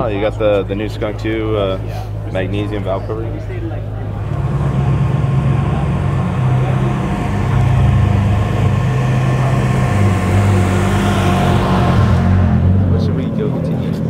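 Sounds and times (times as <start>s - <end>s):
car engine idling: 0.0s - 14.0s
steady hum: 0.0s - 14.0s.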